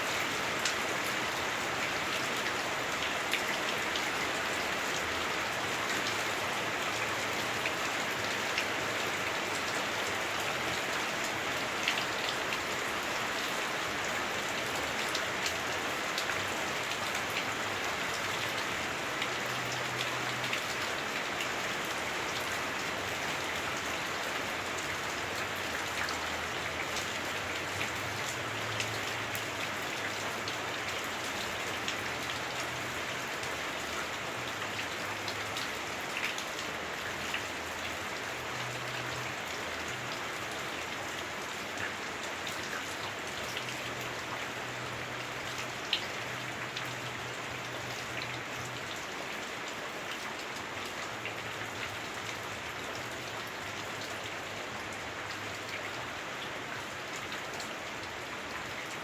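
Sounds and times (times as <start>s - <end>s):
heavy rain on a roof: 0.0s - 59.0s.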